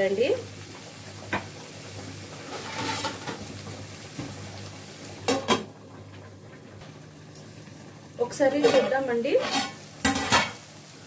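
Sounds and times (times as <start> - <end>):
curry sizzling: 0.0 - 11.0.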